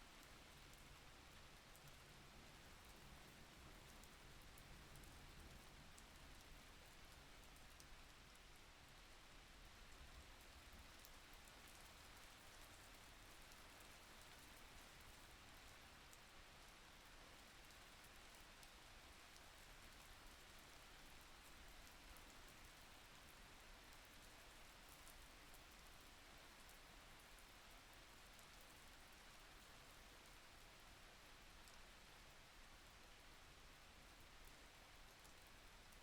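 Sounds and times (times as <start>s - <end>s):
faint steady rain: 0.0s - 36.0s.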